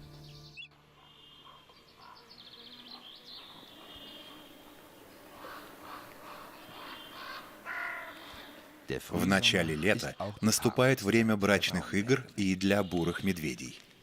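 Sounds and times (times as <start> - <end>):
wild birds calling: 0.0 - 14.0.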